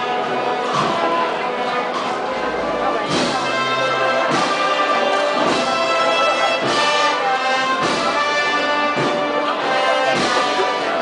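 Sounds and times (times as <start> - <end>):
brass band playing slow march: 0.0 - 11.0.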